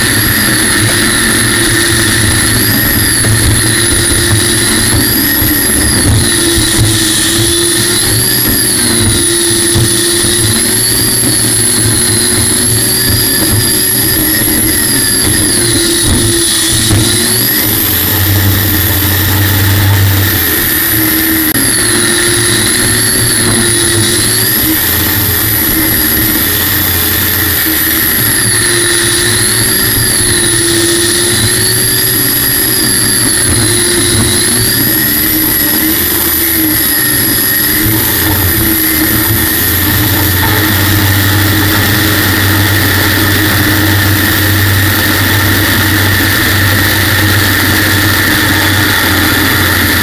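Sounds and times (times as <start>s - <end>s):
turbine engine whine: 0.0s - 50.0s.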